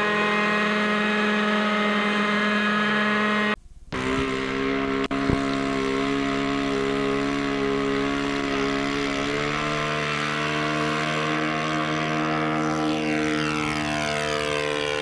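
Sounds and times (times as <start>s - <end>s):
model helicopter engine and rotors: 0.0s - 15.0s.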